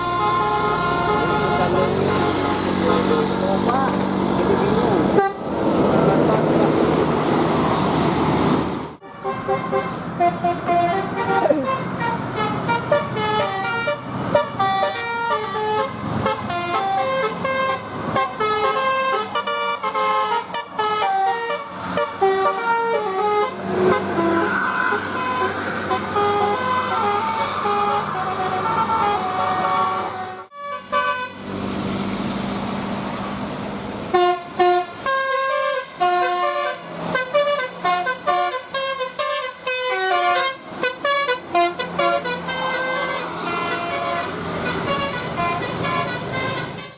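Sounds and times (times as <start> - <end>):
multi-tone air horns playing melodies: 0.0 - 3.4, 5.1 - 5.5, 9.0 - 31.5, 34.1 - 46.9.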